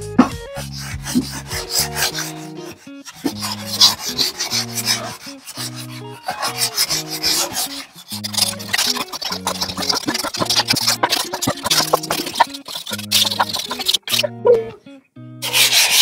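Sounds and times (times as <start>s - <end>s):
background music: 0.0s - 16.0s
sandpaper rasping: 0.2s - 14.2s, 15.4s - 16.0s.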